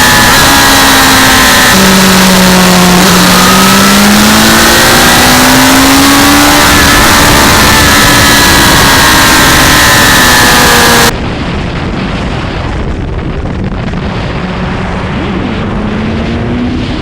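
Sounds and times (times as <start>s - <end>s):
motorcycle engine accelerating: 0.0s - 11.2s, 13.7s - 17.0s
wind noise rushing: 0.0s - 17.0s.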